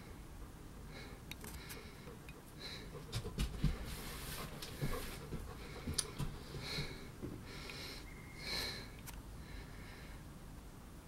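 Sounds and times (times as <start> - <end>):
person breathing and sniffing: 0.8 - 10.2.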